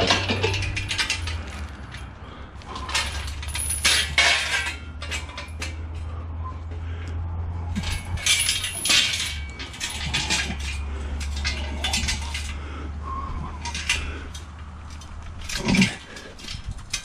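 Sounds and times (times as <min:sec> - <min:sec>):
steel frame clanking and rattling: 0:00.0 - 0:17.0.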